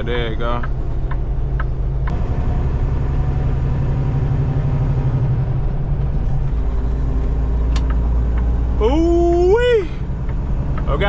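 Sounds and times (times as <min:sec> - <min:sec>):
road noise: 0:00.0 - 0:11.0
truck diesel engine rumble: 0:00.0 - 0:11.0.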